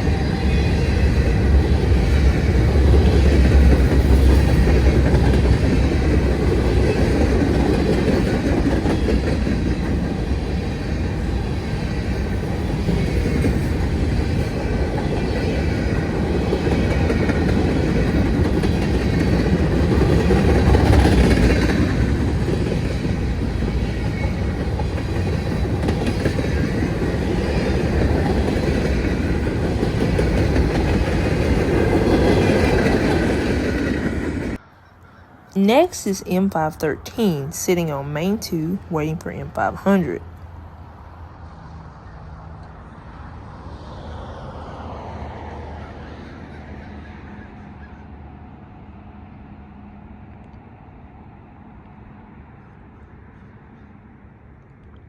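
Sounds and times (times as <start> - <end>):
freight train rumbling past: 0.0 - 34.9, 35.6 - 54.6.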